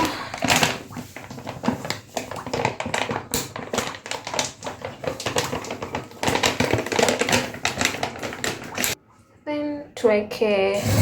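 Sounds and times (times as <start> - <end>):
detergent packet rustling: 0.0 - 9.0.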